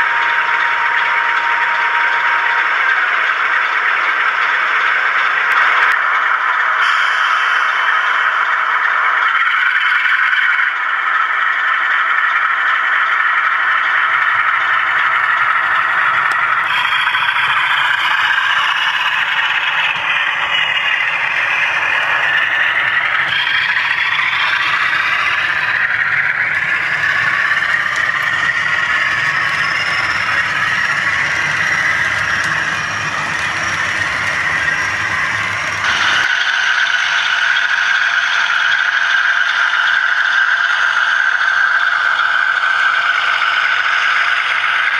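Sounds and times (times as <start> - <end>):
model locomotive engine sound: 0.0 - 44.9
model wheels rattling on track: 8.2 - 44.9.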